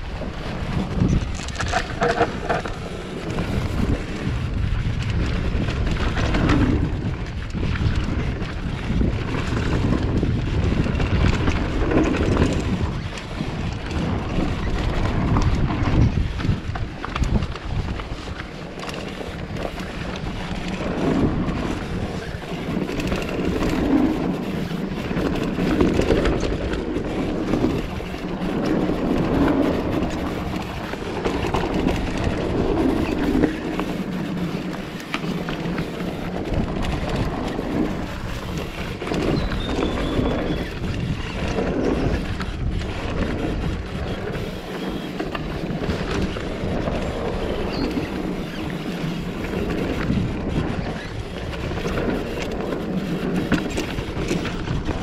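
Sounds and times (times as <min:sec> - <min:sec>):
tyres rolling on dirt trail: 0:00.0 - 0:55.0
wind over microphone: 0:00.0 - 0:55.0.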